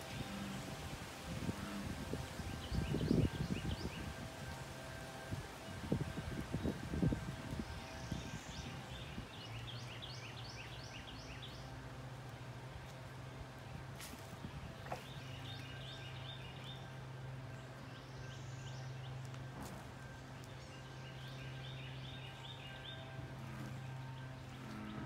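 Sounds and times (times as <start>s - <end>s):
birds chirping: 0.0s - 25.0s
steady low hum: 0.0s - 25.0s.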